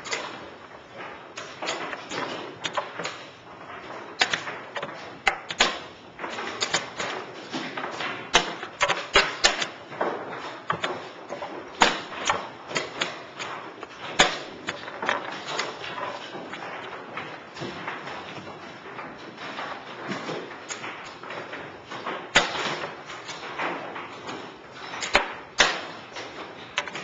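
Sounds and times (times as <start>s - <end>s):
chess pieces knocking on board: 0.0s - 27.0s.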